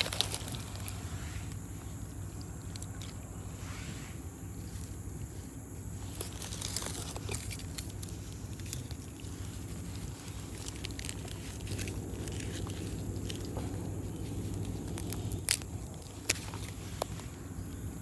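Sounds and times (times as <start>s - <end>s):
rustling in dry grass and leaves: 0.0s - 18.0s
steady low hum: 0.0s - 18.0s.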